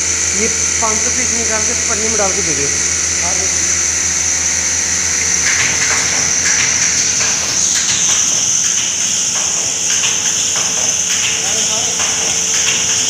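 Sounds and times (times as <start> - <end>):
feeder machine hiss and hum: 0.0 - 13.0
small parts clicking along track: 0.0 - 13.0.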